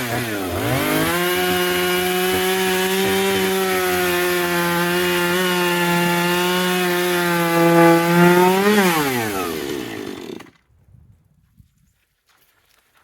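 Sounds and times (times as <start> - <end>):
chainsaw cutting wood: 0.0 - 10.6.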